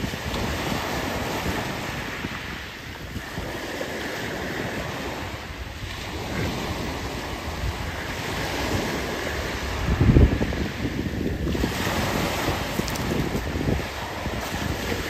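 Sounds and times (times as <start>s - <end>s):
waves washing up pebble beach: 0.0s - 15.0s
wind buffeting microphone: 0.0s - 15.0s.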